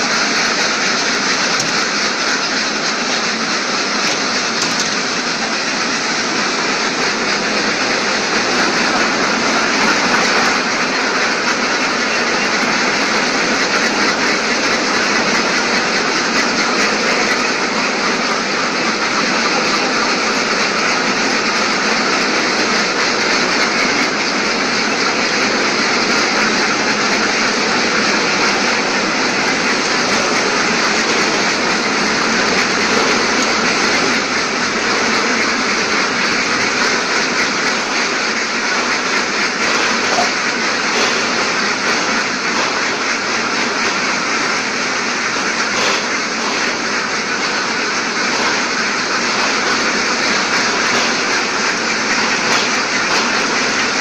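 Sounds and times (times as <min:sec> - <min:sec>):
machinery running with hiss-like din: 0:00.0 - 0:54.0.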